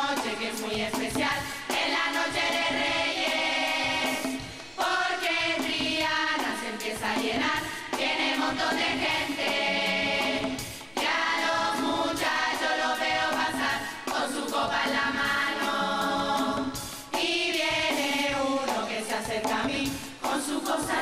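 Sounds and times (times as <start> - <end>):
women's chorus singing: 0.0 - 21.0.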